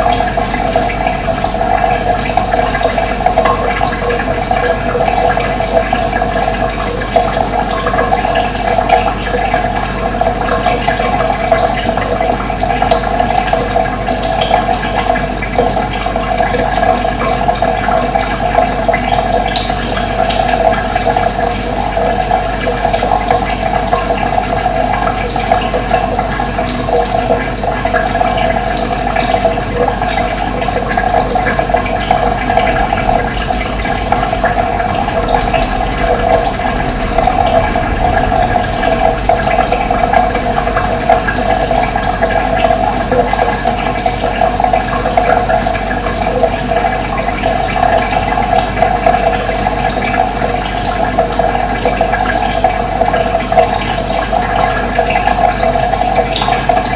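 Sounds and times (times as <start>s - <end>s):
running water flowing: 0.0s - 56.9s.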